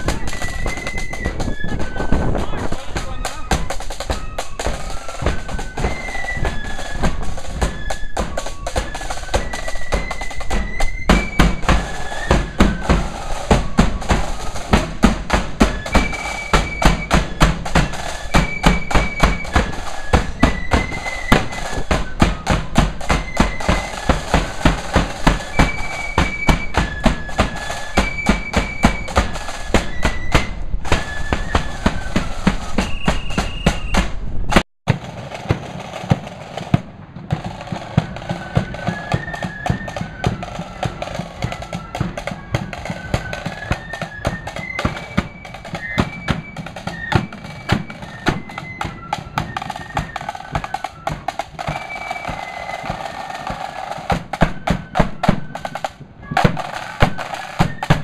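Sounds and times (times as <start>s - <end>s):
bass drum march rhythm: 0.0s - 58.0s
marching flute band: 0.0s - 58.0s
snare drums: 0.0s - 58.0s.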